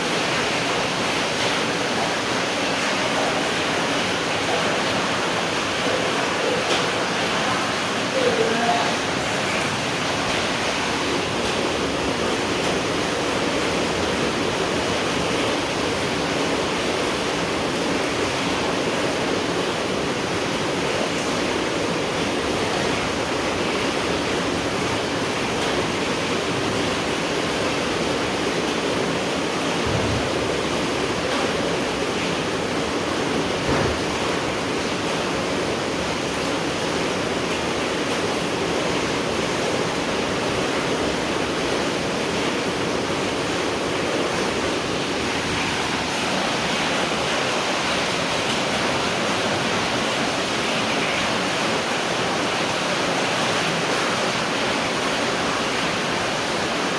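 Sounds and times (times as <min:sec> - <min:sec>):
heavy rain hissing: 0:00.0 - 0:56.9.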